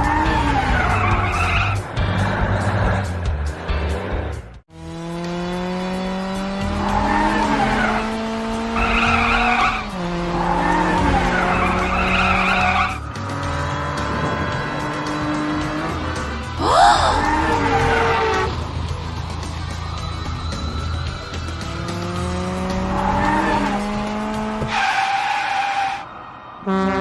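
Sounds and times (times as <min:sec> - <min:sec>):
background music with low beat: 0:00.0 - 0:24.7.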